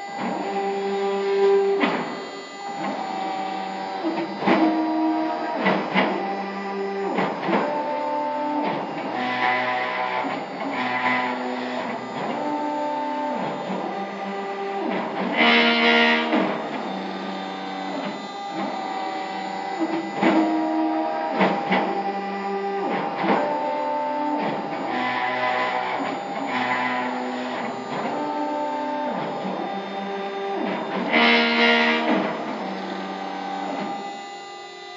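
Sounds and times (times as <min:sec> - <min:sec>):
stepper motors whining: 0:00.0 - 0:34.9.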